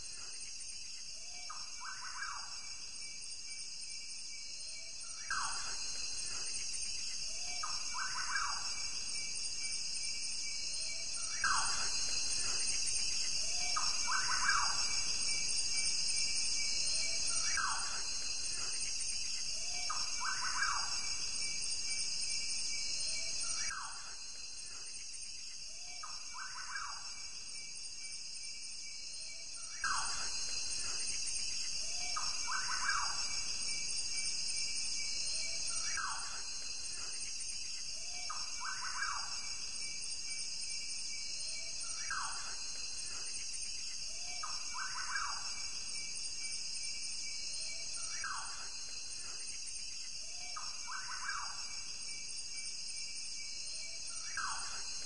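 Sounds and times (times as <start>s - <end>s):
high insect chorus: 0.0s - 55.0s.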